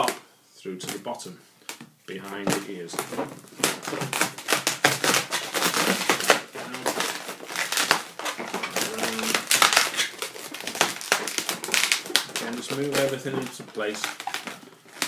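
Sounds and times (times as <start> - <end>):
balloons rubbing and squeaking: 2.1 - 15.0.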